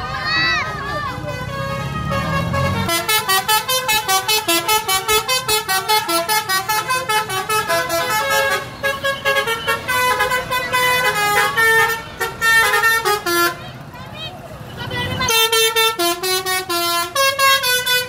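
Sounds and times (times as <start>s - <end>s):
bus horns playing fast tune: 0.6s - 18.0s.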